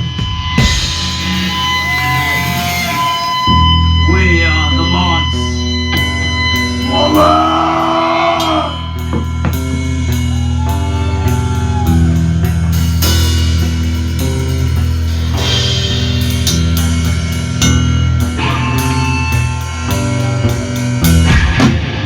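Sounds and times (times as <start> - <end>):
drum kit beat: 0.0 - 4.1, 5.4 - 22.0
bass: 0.0 - 22.0
distorted electric guitar chords: 0.0 - 22.0.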